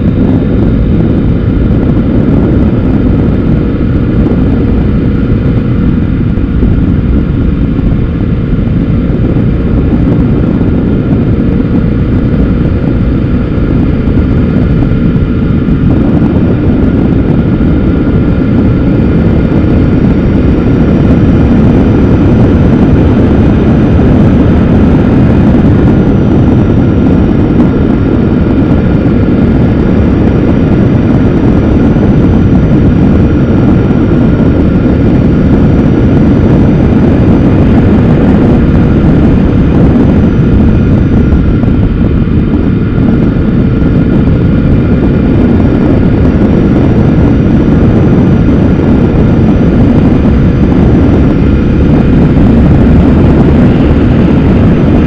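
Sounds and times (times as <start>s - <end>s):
motorcycle engine drone: 0.0s - 55.0s
wind rush on microphone: 0.0s - 55.0s.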